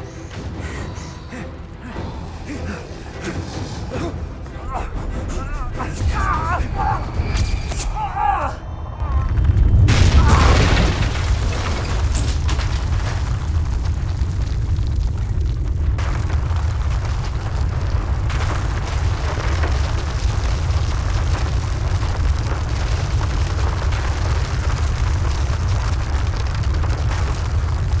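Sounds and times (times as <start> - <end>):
roaring fire: 0.1 - 28.0
deep rumble of fire: 1.4 - 28.0.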